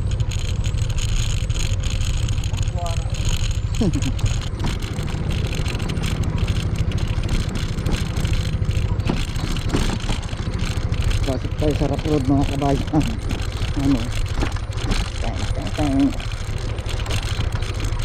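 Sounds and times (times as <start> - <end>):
motor scooter engine: 0.0 - 18.0
wind and road noise: 0.0 - 18.0.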